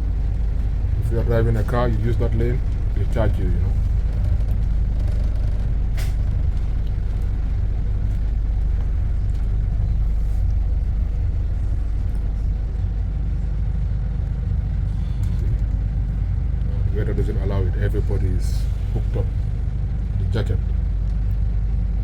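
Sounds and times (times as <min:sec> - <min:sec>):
bus engine rumble and road noise: 0:00.0 - 0:22.0.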